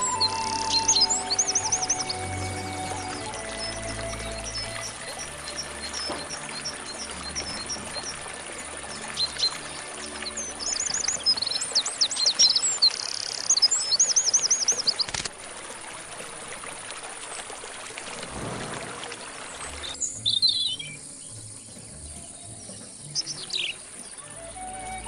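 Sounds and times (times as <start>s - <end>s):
birds chirping and trilling: 0.0s - 15.3s, 18.3s - 25.0s.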